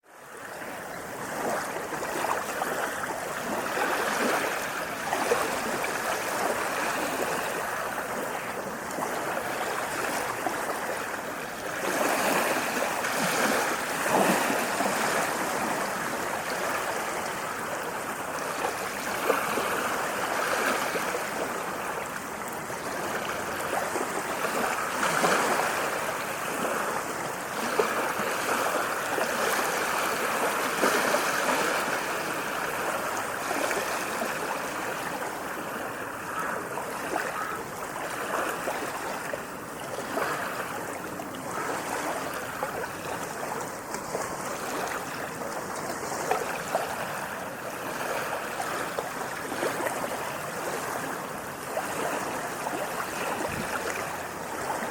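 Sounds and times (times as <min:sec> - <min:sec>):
sea waves washing: 0:00.2 - 0:54.9.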